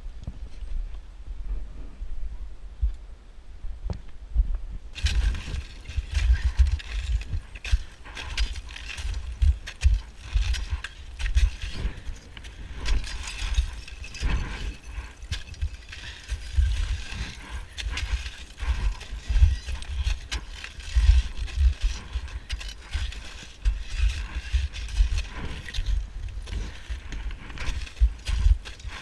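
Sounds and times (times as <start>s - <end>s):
crampon footsteps crunching on snow: 5.0s - 29.0s
metal climbing gear clinking: 5.0s - 29.0s.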